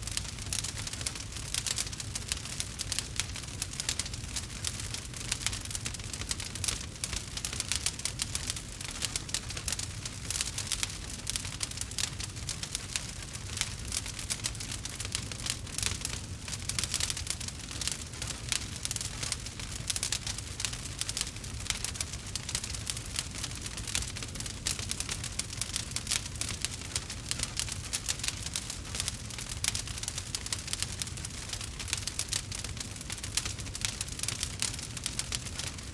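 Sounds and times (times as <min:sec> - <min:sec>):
log fire crackling: 0:00.0 - 0:35.9.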